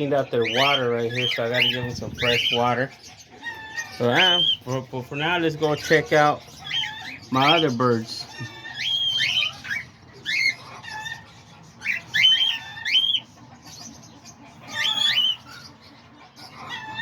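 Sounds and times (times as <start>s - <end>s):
cockatiels whistling calls: 0.2s - 17.0s.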